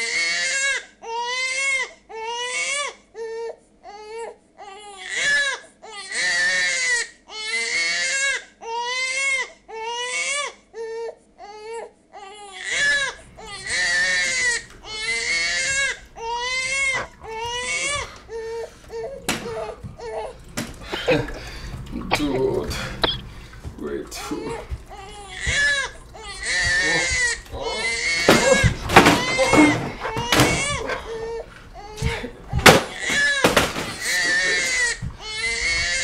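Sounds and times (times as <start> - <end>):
baby crying: 0.0 - 23.1, 24.2 - 36.0.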